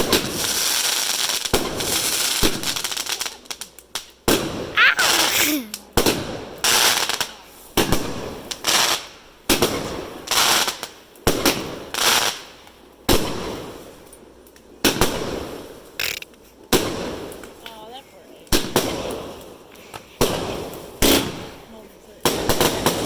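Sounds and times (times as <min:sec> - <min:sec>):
fireworks bangs with crackling hiss: 0:00.0 - 0:23.0.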